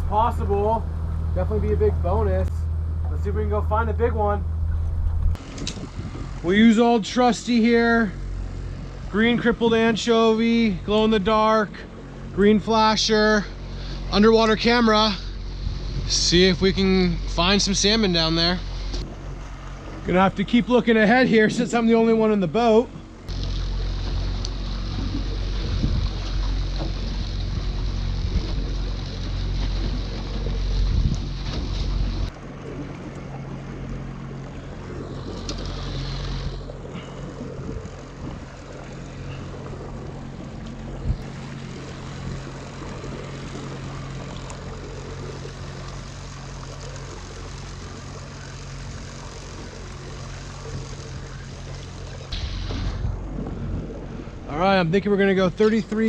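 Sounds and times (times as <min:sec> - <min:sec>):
boat motor running: 0:00.0 - 0:56.0
heavy low rumble: 0:00.0 - 0:56.0
water noise: 0:00.0 - 0:56.0
wind: 0:00.0 - 0:56.0.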